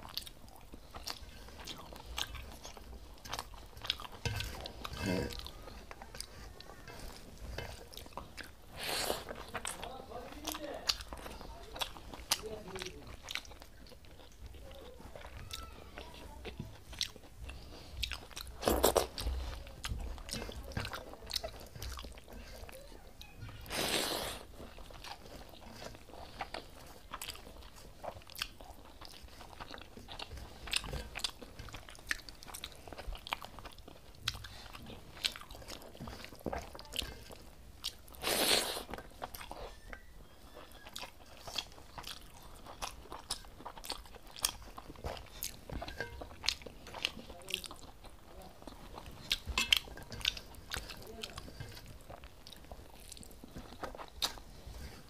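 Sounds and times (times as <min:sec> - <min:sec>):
person chewing and lip-smacking: 0:00.0 - 0:55.0.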